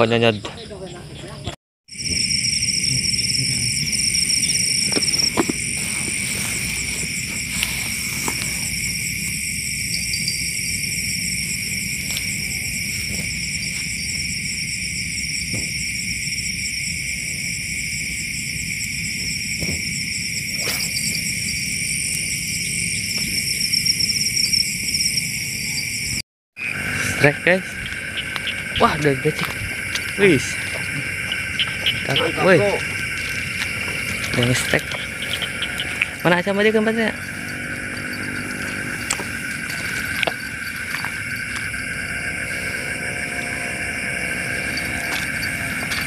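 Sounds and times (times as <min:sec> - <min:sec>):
crickets and insects trilling: 0:00.0 - 0:46.0.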